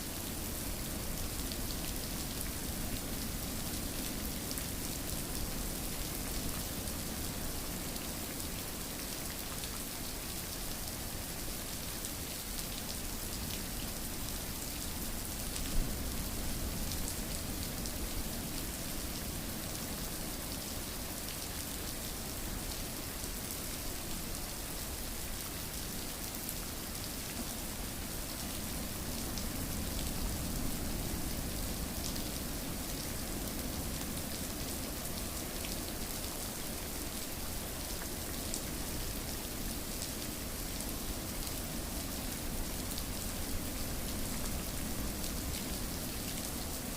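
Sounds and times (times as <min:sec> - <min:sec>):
rain pattering on a surface: 0:00.0 - 0:46.9.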